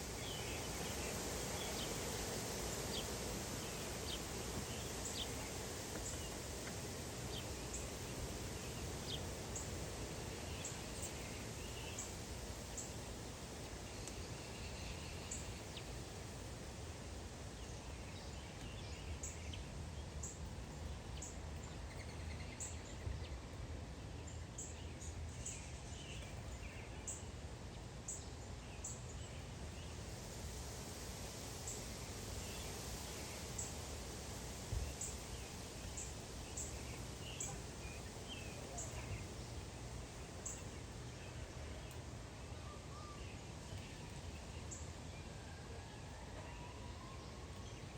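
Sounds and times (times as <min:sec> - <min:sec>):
low outdoor background noise: 0:00.0 - 0:47.9
small songbirds chirping: 0:00.0 - 0:47.9.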